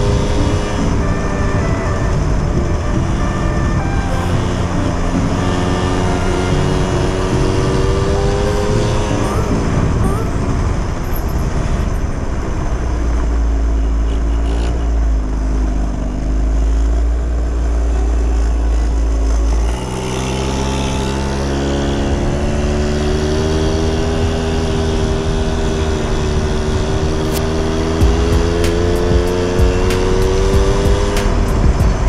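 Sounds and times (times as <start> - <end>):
wind rumble on microphone: 0.0 - 21.5, 22.1 - 32.0
scooter engine running: 0.0 - 32.0.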